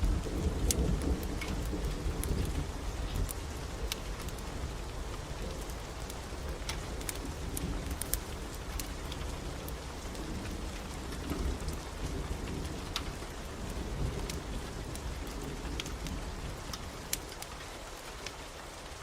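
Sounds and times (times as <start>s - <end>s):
steady rain hiss: 0.0s - 19.0s
wood fire crackling: 0.0s - 19.0s.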